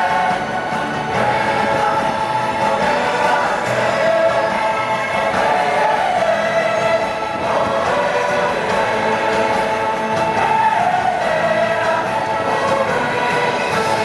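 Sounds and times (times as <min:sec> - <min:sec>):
choir singing held notes: 0:00.0 - 0:14.0
orchestral music: 0:00.0 - 0:14.0.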